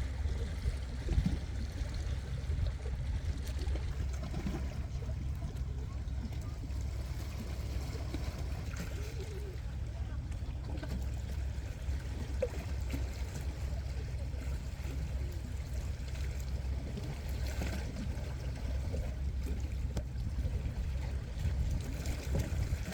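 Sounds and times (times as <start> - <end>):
steady low rumble: 0.0 - 22.9
water sounds: 0.0 - 22.9.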